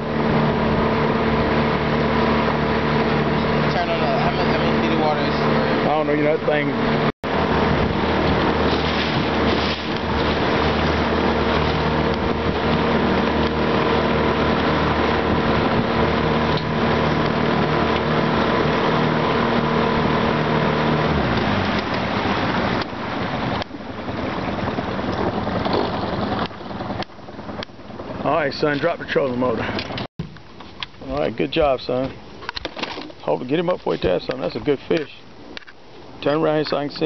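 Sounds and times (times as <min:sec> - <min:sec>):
water rushing past: 0:00.0 - 0:30.3
outboard motor running: 0:00.0 - 0:37.0.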